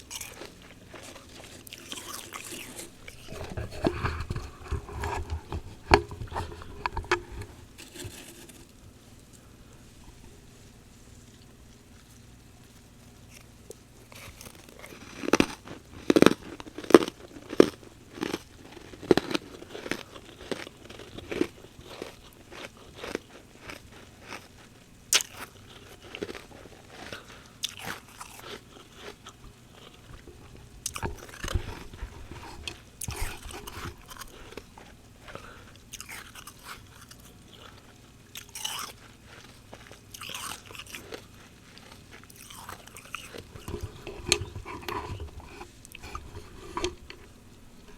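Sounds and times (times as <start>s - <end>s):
frost being chewed: 0.0s - 47.9s.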